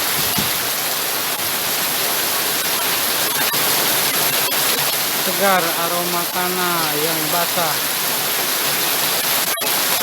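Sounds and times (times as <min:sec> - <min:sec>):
raindrops ticking on surface: 0:00.0 - 0:10.0
steady rain hiss: 0:00.0 - 0:10.0.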